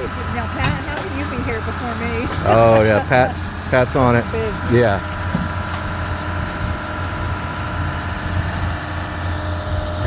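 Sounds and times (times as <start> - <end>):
machine engine idling: 0.0 - 10.0.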